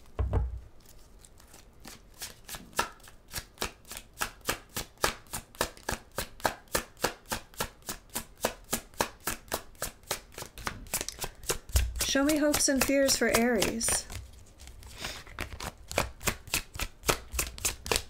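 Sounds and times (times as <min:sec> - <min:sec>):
cards being shuffled: 0:00.0 - 0:06.4, 0:07.6 - 0:18.0.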